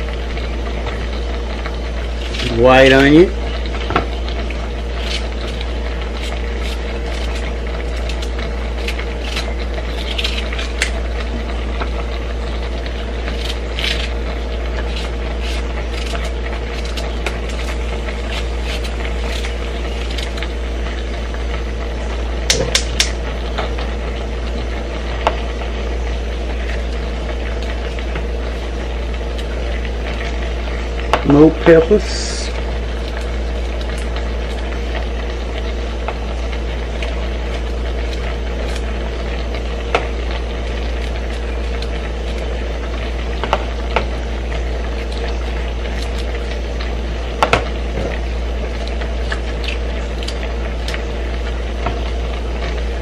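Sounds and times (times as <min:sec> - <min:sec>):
gas stove hum and hiss: 0:00.0 - 0:53.0.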